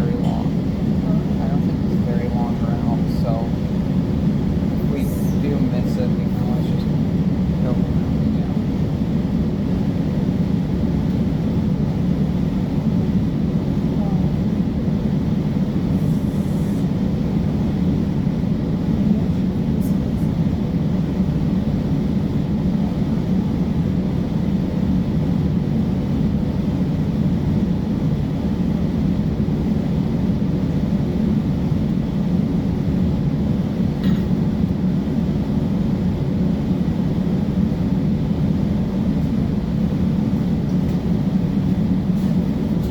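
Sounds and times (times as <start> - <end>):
bus engine rumble: 0.0 - 42.9.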